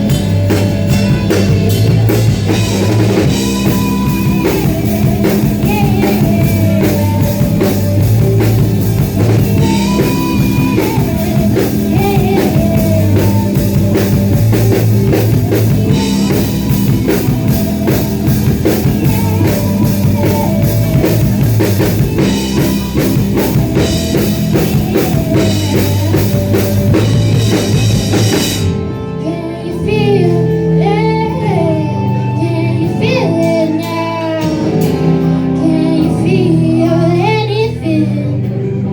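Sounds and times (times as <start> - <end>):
woman singing: 0.0 - 28.5, 29.1 - 38.9
drum kit: 0.0 - 38.8
bass guitar: 0.0 - 38.9
guitar: 0.0 - 38.9.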